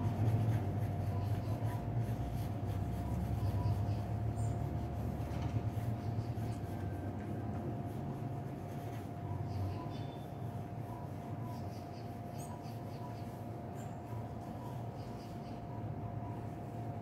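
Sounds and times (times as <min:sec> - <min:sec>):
pencil scratching on paper: 0:00.0 - 0:15.4
low hum with thin tone: 0:00.0 - 0:17.0.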